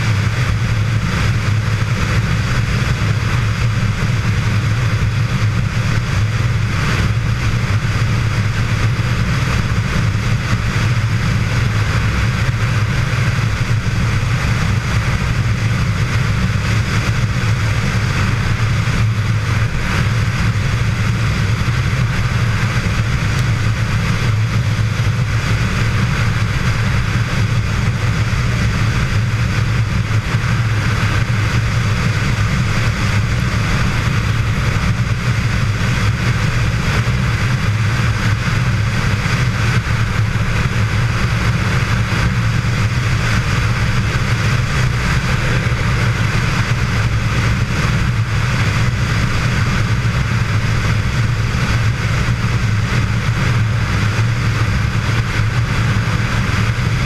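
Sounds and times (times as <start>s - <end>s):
motorcycle engine drone: 0.0s - 57.0s
wind and road noise: 0.0s - 57.0s.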